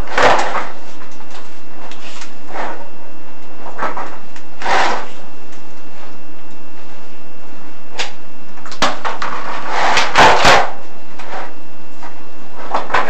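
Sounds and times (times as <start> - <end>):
camera head scraping inside flue: 0.1 - 13.0.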